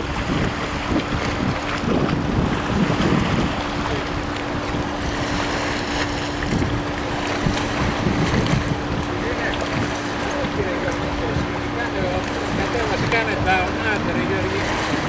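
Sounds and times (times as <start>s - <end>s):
small waves washing: 0.0s - 15.0s
steady engine hum: 0.0s - 15.0s
wind buffeting microphone: 0.0s - 15.0s.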